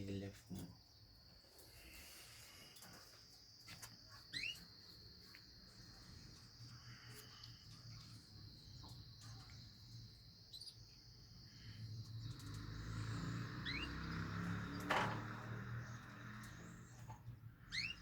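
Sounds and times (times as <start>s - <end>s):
cage birds chirping: 0.0s - 18.0s.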